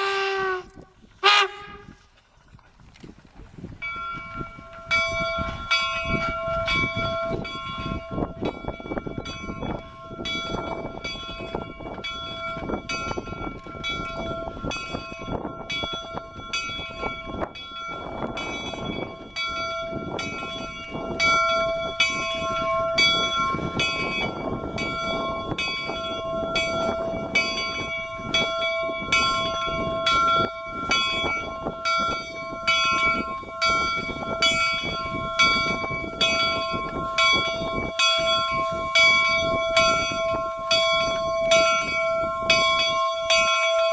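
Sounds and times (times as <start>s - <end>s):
steam locomotive noise: 0.0s - 2.4s, 3.3s - 43.9s
locomotive bell ringing: 3.6s - 43.9s.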